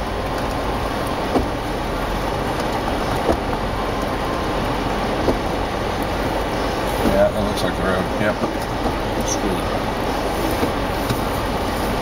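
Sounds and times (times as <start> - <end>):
drivetrain and tyre rumble: 0.0 - 12.0.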